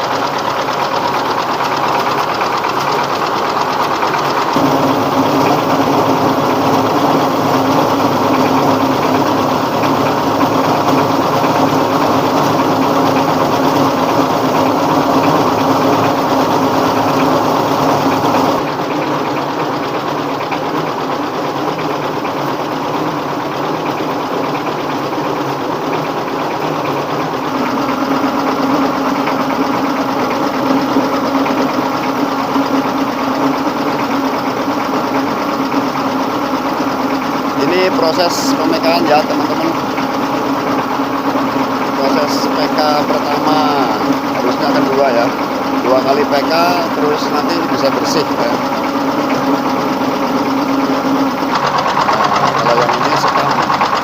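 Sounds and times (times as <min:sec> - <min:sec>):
diesel rice mill running: 0:00.0 - 0:54.0.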